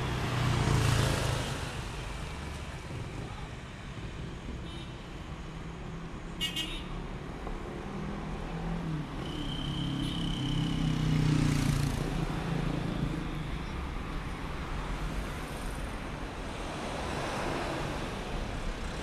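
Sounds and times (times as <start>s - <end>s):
passing cars: 0.0s - 4.5s, 5.3s - 19.0s.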